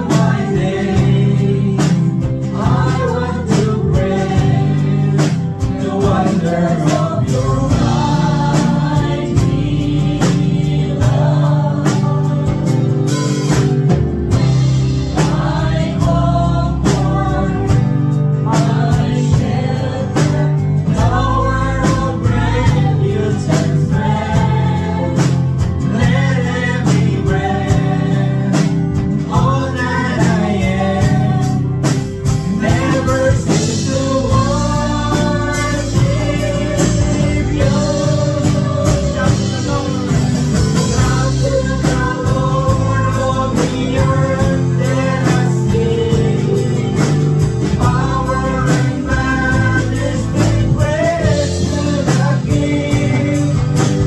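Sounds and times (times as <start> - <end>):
acoustic guitar: 0.0 - 54.0
drums: 0.0 - 54.0
electric guitar: 0.0 - 54.0
keyboard: 0.0 - 54.0.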